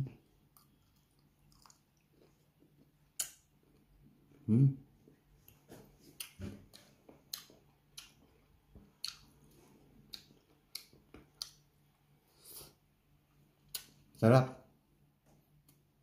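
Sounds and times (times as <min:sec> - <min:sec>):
soft chewing: 0:00.1 - 0:14.0.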